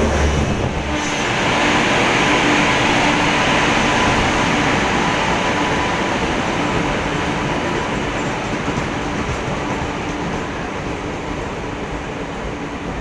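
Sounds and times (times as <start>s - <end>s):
electric locomotive passing: 0.0s - 13.0s
train wheels on rail: 0.0s - 13.0s.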